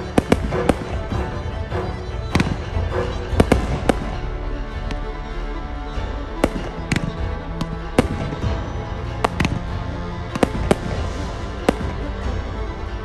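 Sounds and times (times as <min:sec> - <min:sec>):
fireworks bangs: 0:00.0 - 0:05.0, 0:06.4 - 0:12.6
music: 0:00.0 - 0:13.0.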